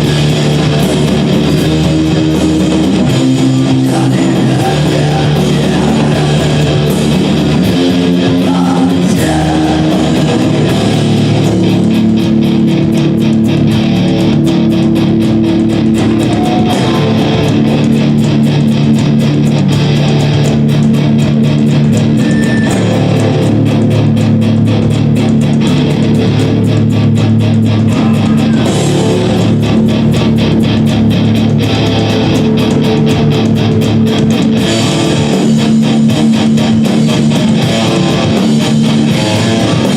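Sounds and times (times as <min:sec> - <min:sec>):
bass chords: 0:00.0 - 0:39.9
electric guitar chords: 0:00.0 - 0:39.9
fast dense drumming: 0:00.0 - 0:39.9.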